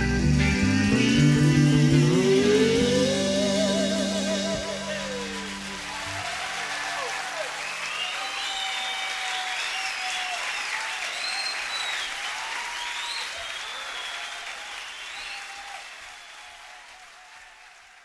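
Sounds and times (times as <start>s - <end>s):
audience applauding and cheering: 2.0s - 18.0s.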